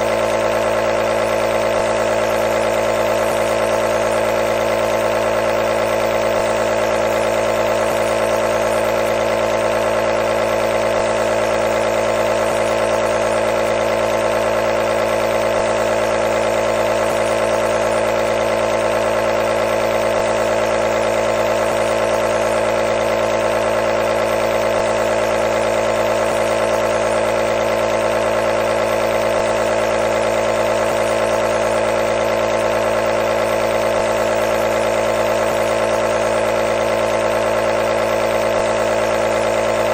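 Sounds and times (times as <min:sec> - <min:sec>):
compressor buzzing hum: 0:00.0 - 0:39.9.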